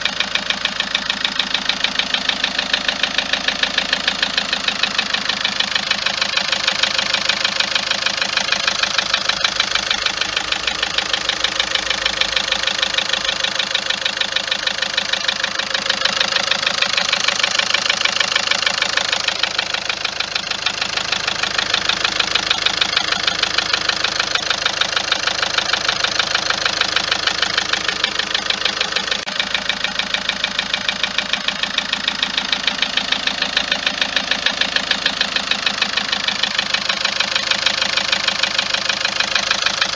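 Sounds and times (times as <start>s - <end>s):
car engine idling with ticking clatter: 0.0s - 39.9s.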